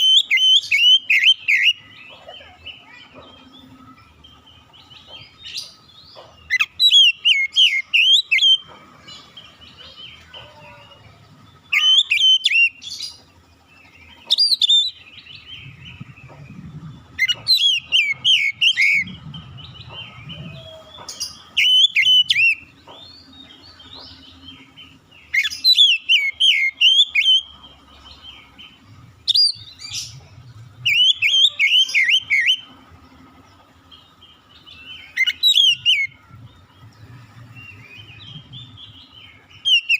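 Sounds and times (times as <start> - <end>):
bird singing whistled notes: 0.0 - 2.0, 3.4 - 8.8, 11.5 - 13.2, 14.0 - 32.7, 34.0 - 36.5, 37.1 - 39.9.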